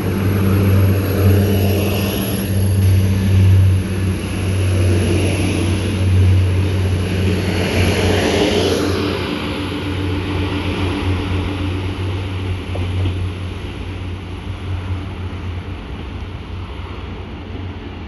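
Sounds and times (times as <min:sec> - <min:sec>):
diesel train engine drone: 0:00.0 - 0:18.0.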